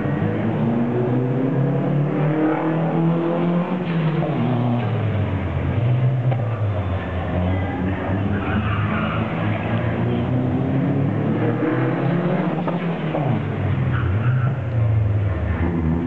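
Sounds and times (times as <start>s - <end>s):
car engine revving hard: 0.0s - 14.5s.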